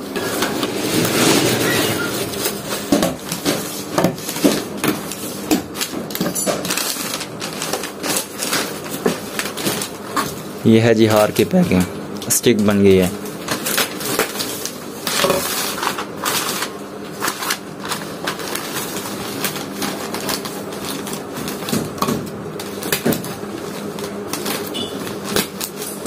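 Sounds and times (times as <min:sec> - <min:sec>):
newspaper rustling and crinkling: 0:02.2 - 0:11.8, 0:12.9 - 0:26.0.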